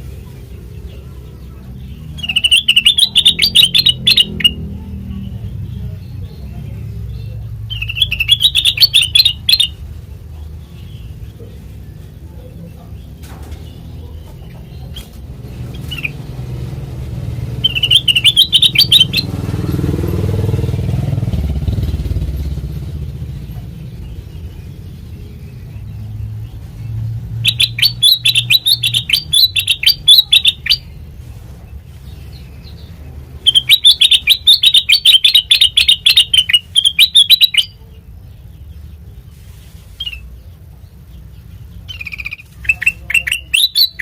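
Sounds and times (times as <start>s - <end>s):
bulbul chattering song: 0.0s - 21.1s, 22.2s - 39.2s, 39.8s - 44.0s.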